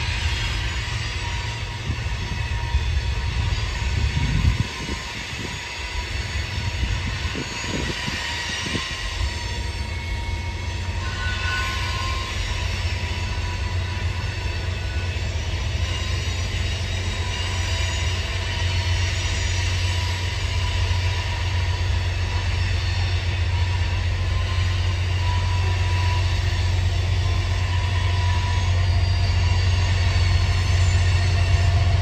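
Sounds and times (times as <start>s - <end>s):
thin wheel squeal: 0.0s - 32.0s
train wheels rumbling on rail: 0.0s - 32.0s.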